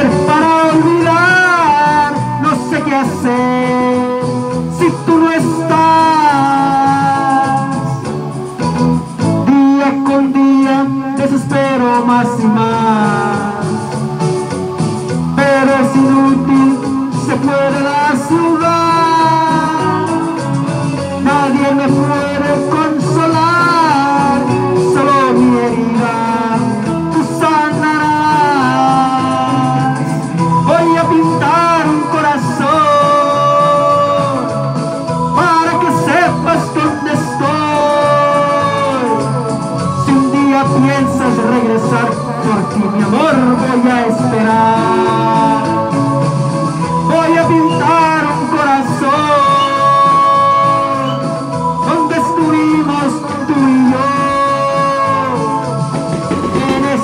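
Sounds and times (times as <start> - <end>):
man singing into microphone: 0.0 - 57.0
recorded backing track: 0.0 - 57.0.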